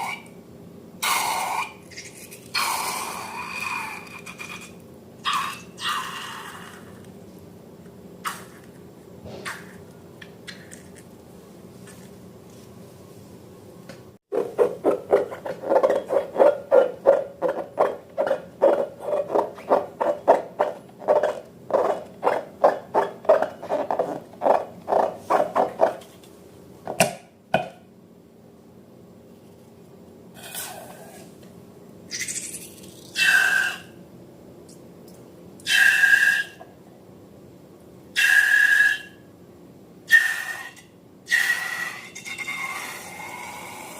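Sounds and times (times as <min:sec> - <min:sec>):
steady low hum: 0:00.0 - 0:35.7.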